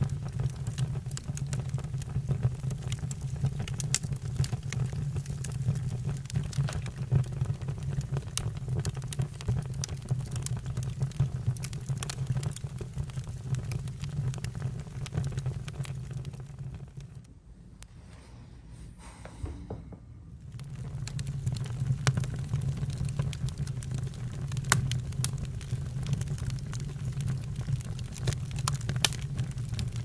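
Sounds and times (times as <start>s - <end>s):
campfire crackling and popping: 0.0s - 17.3s, 20.4s - 30.0s.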